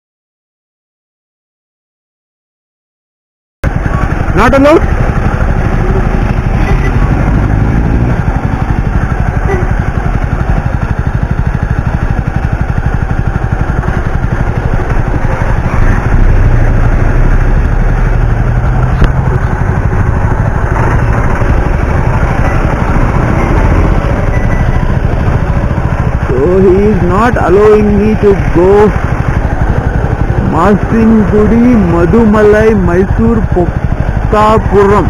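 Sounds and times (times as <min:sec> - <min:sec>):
motorcycle engine running: 0:03.6 - 0:35.0.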